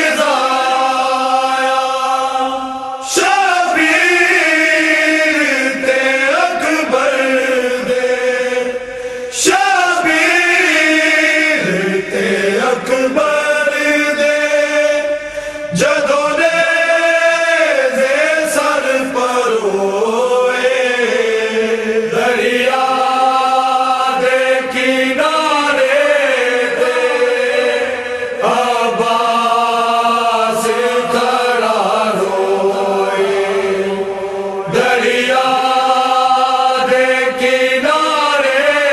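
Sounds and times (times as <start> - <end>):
chanted vocal recitation: 0.0 - 38.9.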